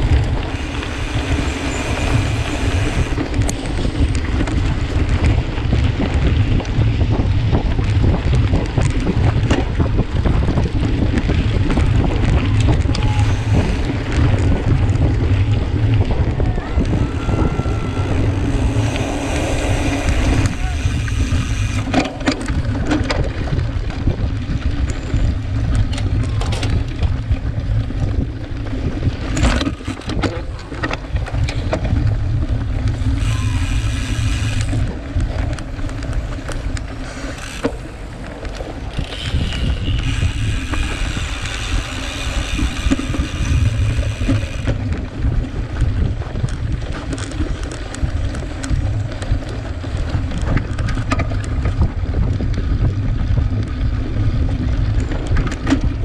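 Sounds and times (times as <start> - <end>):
bike rattling on rough ground: 0.0 - 56.0
wind buffeting microphone: 0.0 - 56.0.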